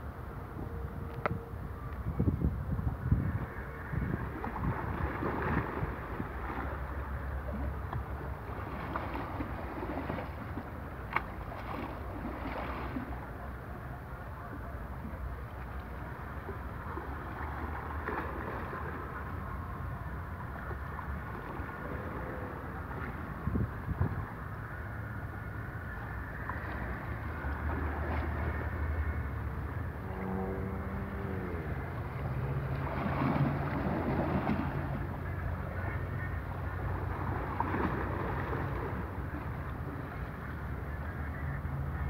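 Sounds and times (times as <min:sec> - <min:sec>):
wind rumbling on microphone: 0:00.0 - 0:42.0
waves splashing against rocks: 0:03.1 - 0:14.0, 0:14.6 - 0:42.0.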